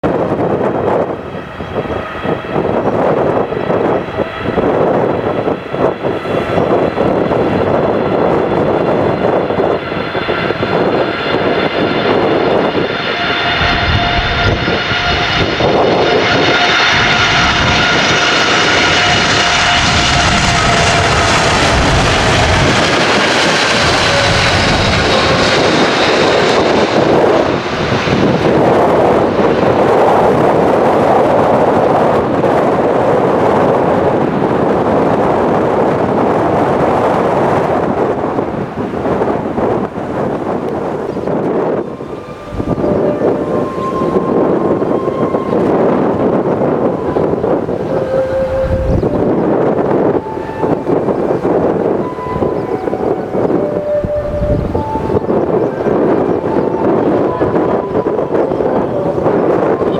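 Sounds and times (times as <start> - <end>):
jet engines whining: 0.0 - 59.9
wind rumbling on microphone: 0.0 - 59.9.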